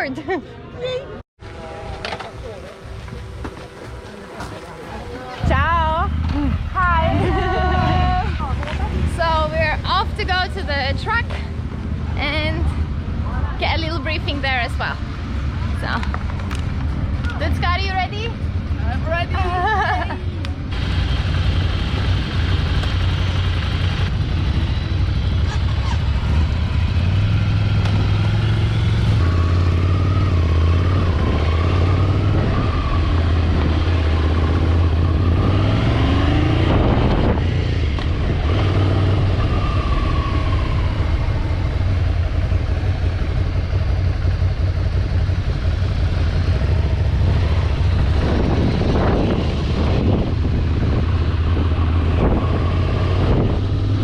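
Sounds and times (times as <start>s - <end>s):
motorcycle engine running: 1.4s - 54.0s.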